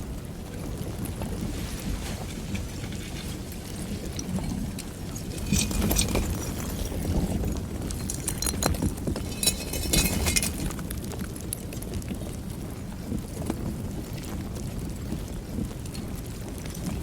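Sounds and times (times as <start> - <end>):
lava crust crackling and clinking: 0.1 - 17.0.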